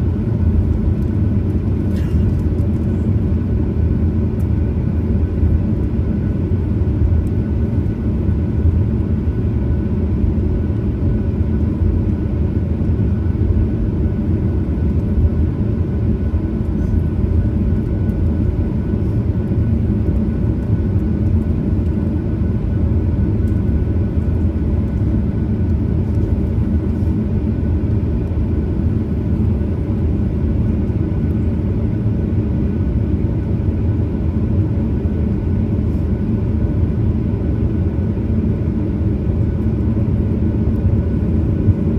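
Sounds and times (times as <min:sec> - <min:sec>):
airplane cabin low rumble: 0:00.0 - 0:41.9
faint engine whine: 0:00.0 - 0:41.9.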